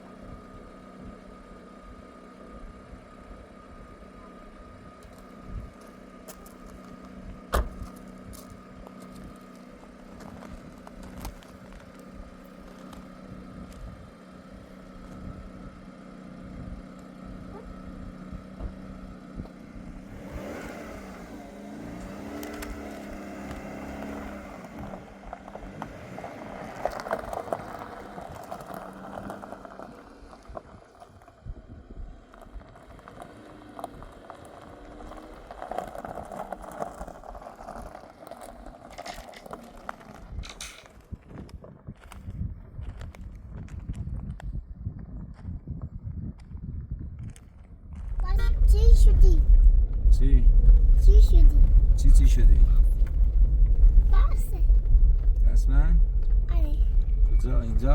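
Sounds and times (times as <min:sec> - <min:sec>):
car engine running: 0:00.0 - 0:44.9, 0:47.2 - 0:57.9.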